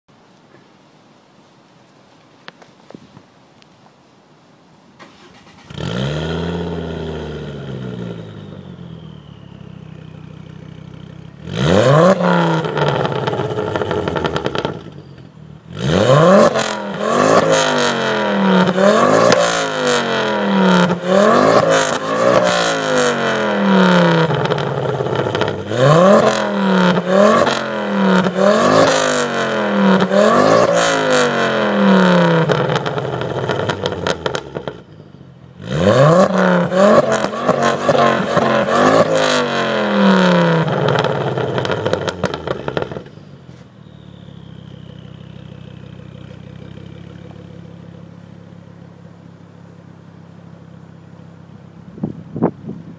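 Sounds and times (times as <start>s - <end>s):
car engine idling and revving: 5.0s - 52.9s.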